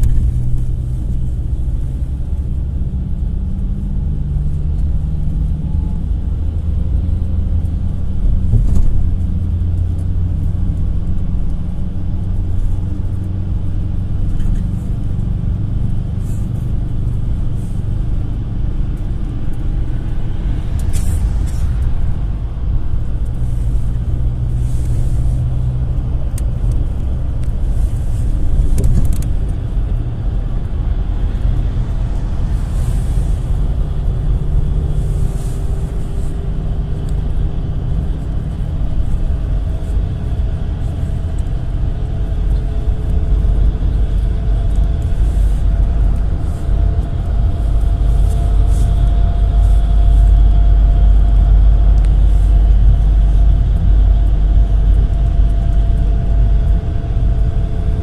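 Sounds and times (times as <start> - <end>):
minibus engine and road rumble: 0.0 - 58.0.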